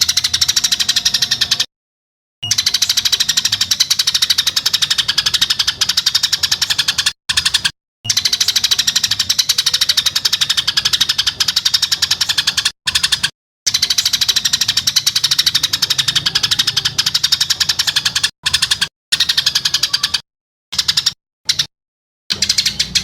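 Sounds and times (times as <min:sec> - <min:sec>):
songbird harsh rapid trill: 0:00.0 - 0:01.7, 0:02.4 - 0:20.2.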